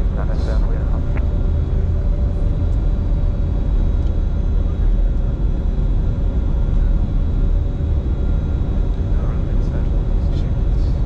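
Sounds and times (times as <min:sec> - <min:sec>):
airflow and engine rumble: 0:00.0 - 0:11.0.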